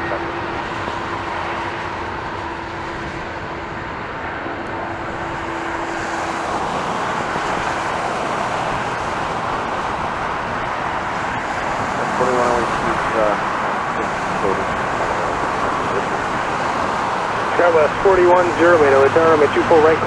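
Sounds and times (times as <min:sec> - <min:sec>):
jet airliner engines rushing: 0:00.0 - 0:20.0.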